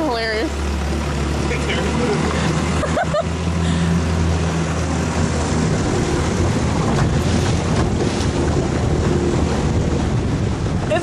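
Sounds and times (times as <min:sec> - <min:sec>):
outboard motor running: 0:00.0 - 0:11.0
wind and water rushing: 0:00.0 - 0:11.0.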